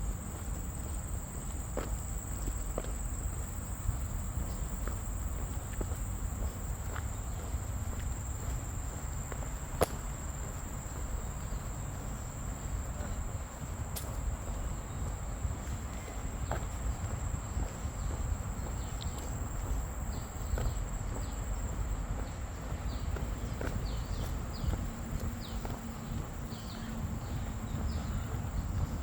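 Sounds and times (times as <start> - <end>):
faint footsteps: 0.0 - 29.0.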